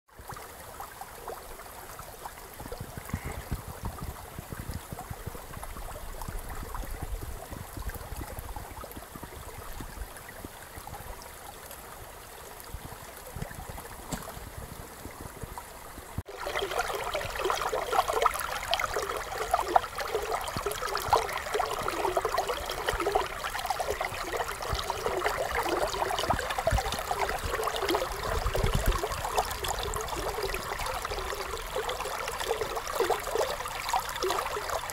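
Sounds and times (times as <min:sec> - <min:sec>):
creek water gurgling over rocks: 0:00.1 - 0:34.9
stream splashing: 0:00.1 - 0:34.9.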